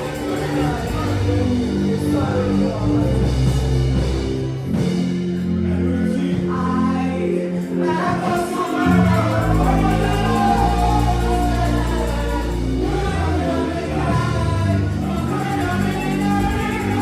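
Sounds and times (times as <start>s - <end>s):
choir singing gospel music: 0.0s - 17.0s
low bass notes: 0.0s - 17.0s.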